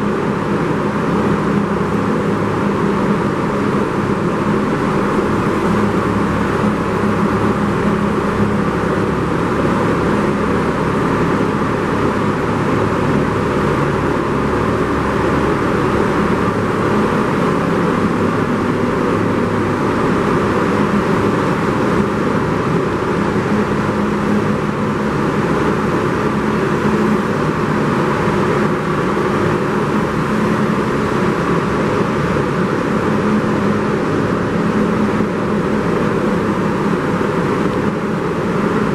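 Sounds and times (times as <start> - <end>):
low motor hum: 0.0 - 38.9
subway train wheels roaring on rail: 0.0 - 38.9.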